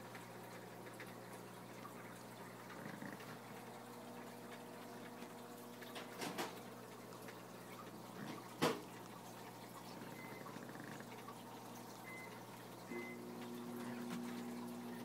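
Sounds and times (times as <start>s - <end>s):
water bubbling: 0.0s - 6.0s, 6.6s - 15.0s
faint electrical hum: 0.0s - 15.0s.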